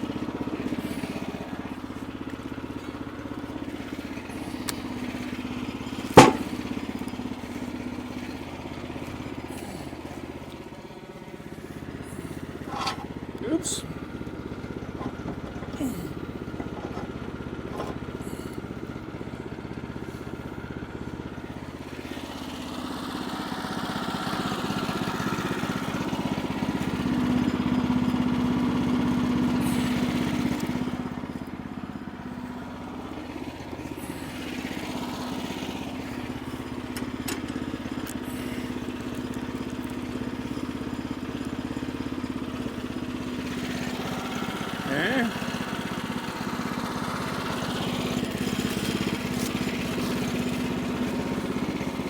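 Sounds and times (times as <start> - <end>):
sawmill gasoline engine running: 0.0 - 52.0.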